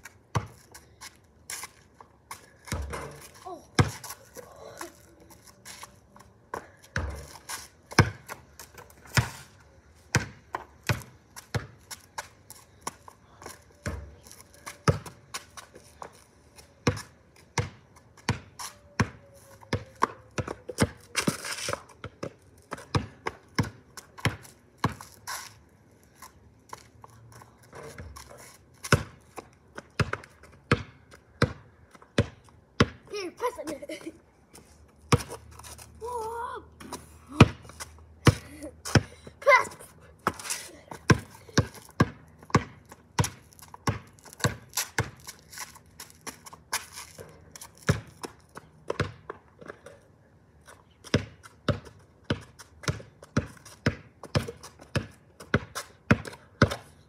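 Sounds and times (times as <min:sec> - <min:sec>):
basketball bouncing on concrete: 0:00.0 - 0:01.1, 0:02.0 - 0:04.6, 0:06.5 - 0:09.5, 0:10.1 - 0:25.2, 0:27.7 - 0:33.8, 0:35.0 - 0:35.4, 0:36.8 - 0:49.8, 0:51.0 - 0:57.0.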